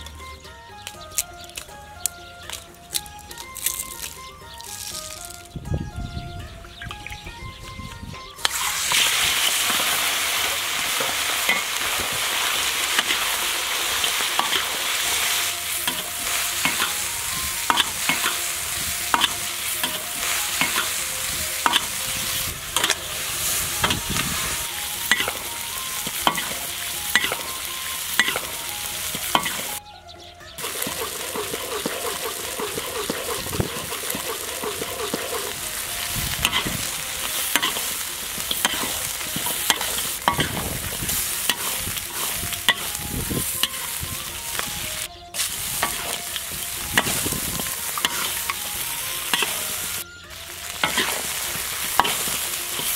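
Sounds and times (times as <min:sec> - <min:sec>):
chicken sizzling in hot oil: 0:08.4 - 0:29.8, 0:30.6 - 0:52.9
metal spatula scraping wok: 0:08.4 - 0:29.8, 0:30.6 - 0:52.9.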